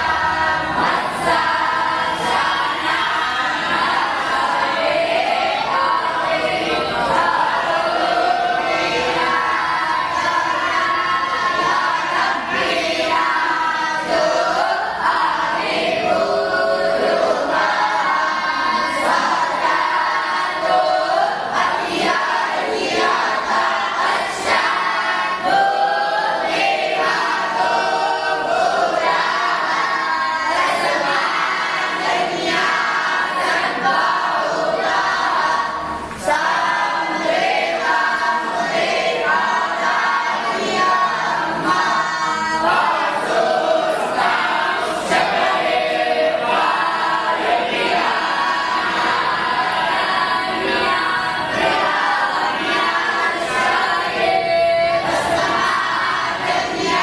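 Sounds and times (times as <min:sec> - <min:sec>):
young voices singing in unison: 0:00.0 - 0:57.0.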